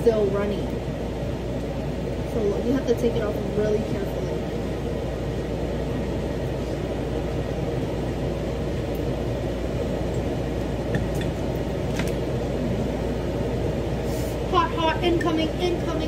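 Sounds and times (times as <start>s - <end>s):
range hood fan running: 0.0s - 16.0s.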